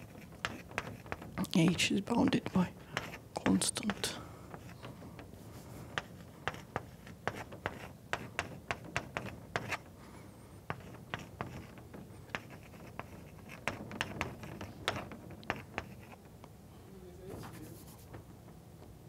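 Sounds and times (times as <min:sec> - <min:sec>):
chalk tapping and scratching: 0:00.0 - 0:10.0, 0:10.6 - 0:16.4, 0:17.2 - 0:18.3.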